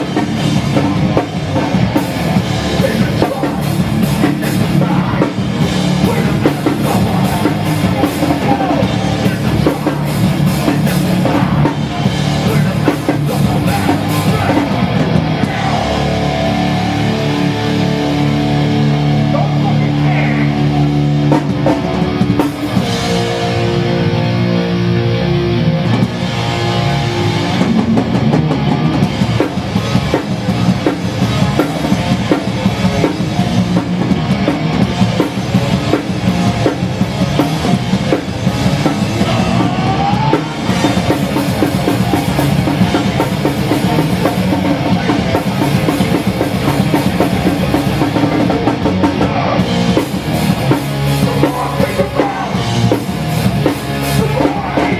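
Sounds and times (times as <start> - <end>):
fast drum beat: 0.0 - 23.5, 25.9 - 54.9
punk band playing live: 0.0 - 54.9.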